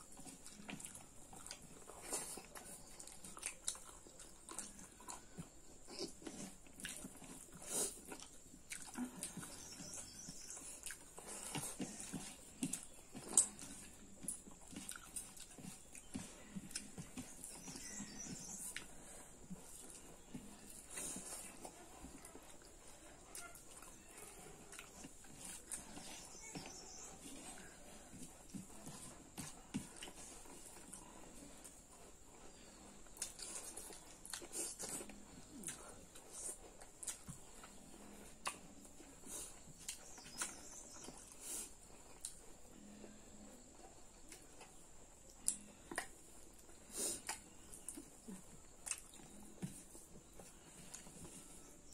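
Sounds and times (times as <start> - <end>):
chewing and mouth smacks: 0.0 - 51.9.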